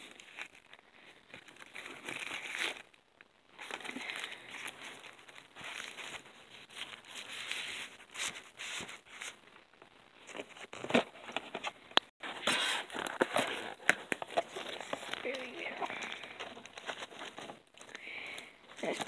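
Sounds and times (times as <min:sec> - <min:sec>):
plastic wrappers crinkling: 0:00.0 - 0:09.4, 0:10.2 - 0:19.0.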